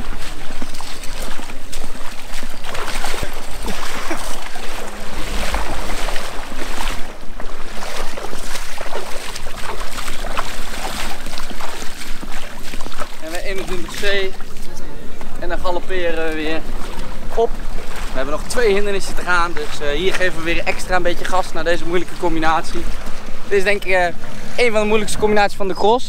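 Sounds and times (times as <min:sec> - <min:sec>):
footsteps splashing through water: 0:00.0 - 0:24.4.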